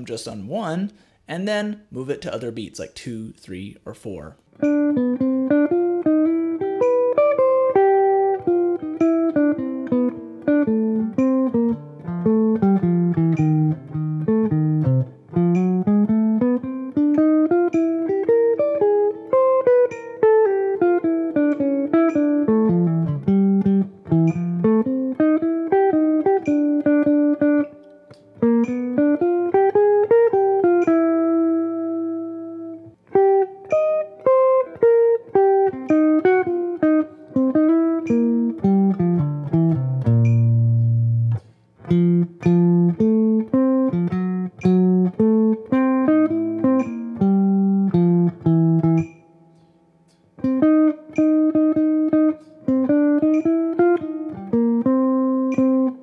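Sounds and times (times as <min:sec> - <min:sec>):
jazz guitar single-note line: 0:02.0 - 0:49.7, 0:50.4 - 0:56.0
metronome clicking: 0:04.4 - 0:56.0.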